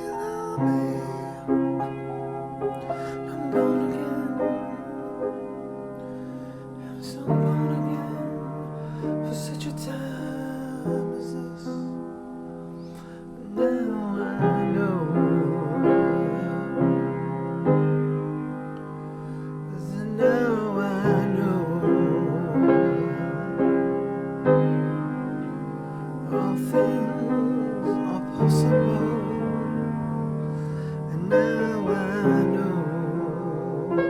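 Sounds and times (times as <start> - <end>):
slow piano chords: 0.0 - 34.0.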